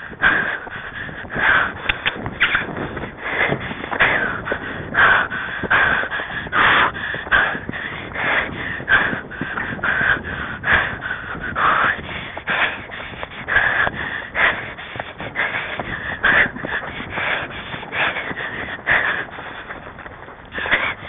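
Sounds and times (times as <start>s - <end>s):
constant rustling noise: 0.0s - 21.0s
hard rhythmic breathing: 0.0s - 21.0s.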